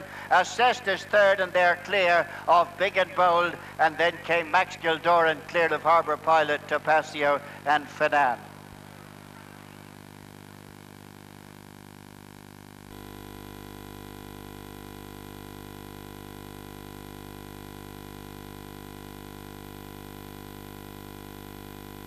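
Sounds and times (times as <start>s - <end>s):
constant tape hiss: 0.0s - 22.0s
electrical mains hum: 0.0s - 22.0s.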